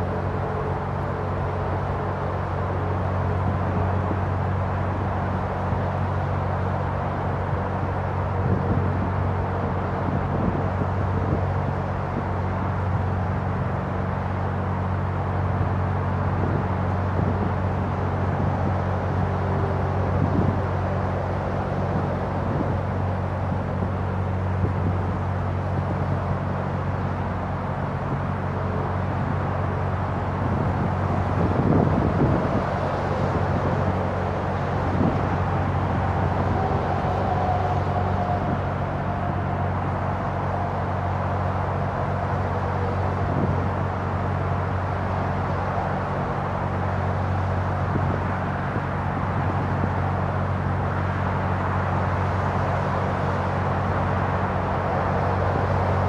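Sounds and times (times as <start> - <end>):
boat diesel engine humming: 0.0 - 56.0
traffic noise: 0.0 - 56.0.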